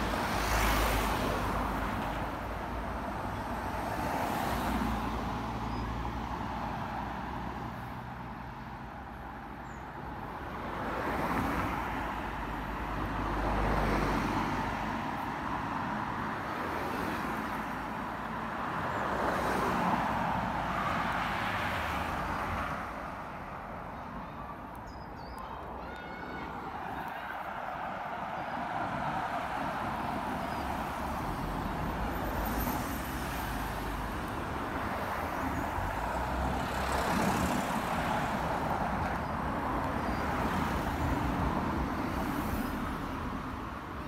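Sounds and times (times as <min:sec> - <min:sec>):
cars passing: 0:00.0 - 0:44.0.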